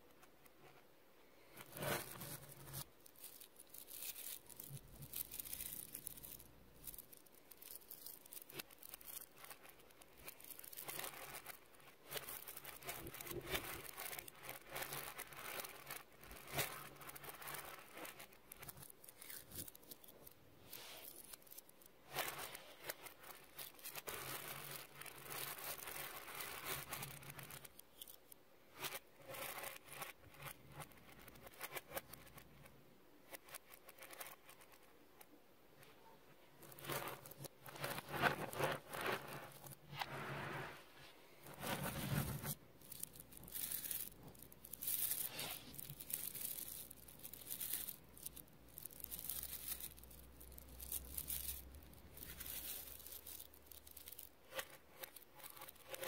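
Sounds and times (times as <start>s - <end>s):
magnet balls clicking and rattling: 1.9s - 32.7s, 41.4s - 56.0s.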